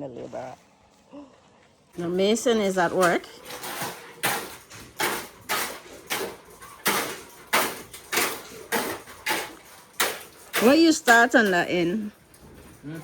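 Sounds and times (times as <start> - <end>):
hand tool strokes: 2.0 - 13.0.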